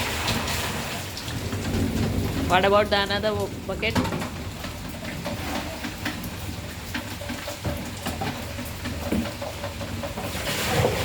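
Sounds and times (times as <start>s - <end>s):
rain hissing: 0.0s - 11.0s
raindrops tapping: 0.0s - 11.0s.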